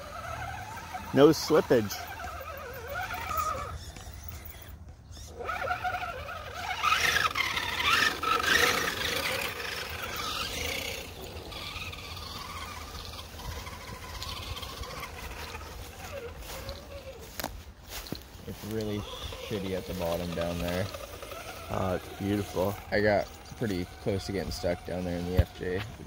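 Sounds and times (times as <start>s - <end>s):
electric motor whine of toy car: 0.0s - 26.0s.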